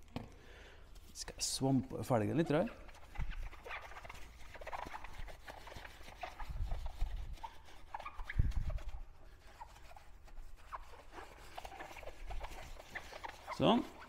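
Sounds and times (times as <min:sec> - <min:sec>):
sponge scrubbing wheel rim: 0:01.1 - 0:14.0.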